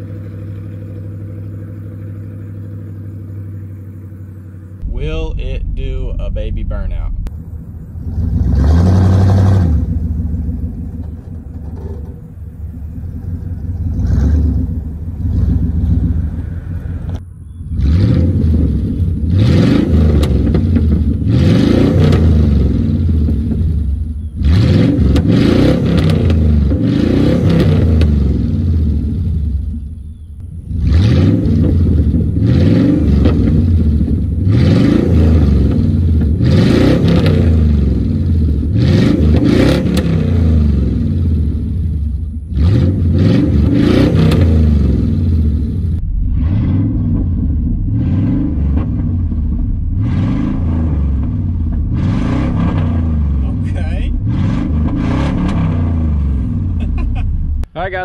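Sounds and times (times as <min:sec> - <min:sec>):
car engine revving: 0:00.0 - 0:58.0
exhaust backfires: 0:00.0 - 0:58.0.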